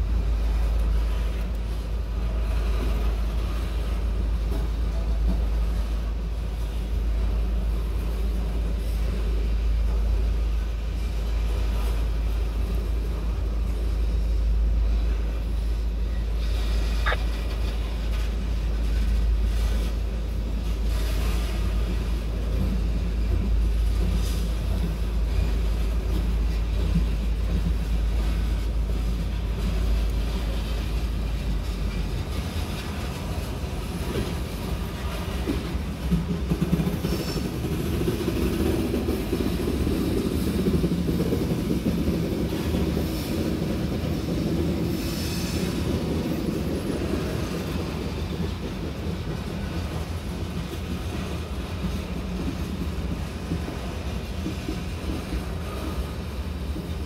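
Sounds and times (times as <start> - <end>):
steady low hum: 0.0 - 57.0
train wheels rumbling on rail: 0.0 - 57.0.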